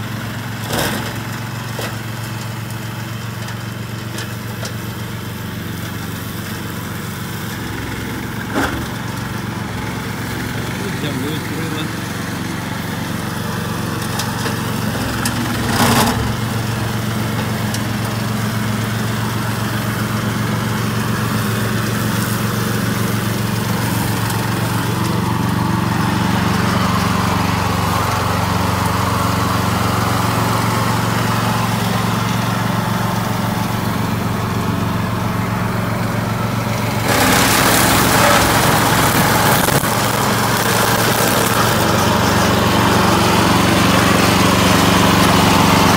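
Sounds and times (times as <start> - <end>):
mower engine running: 0.0 - 45.9.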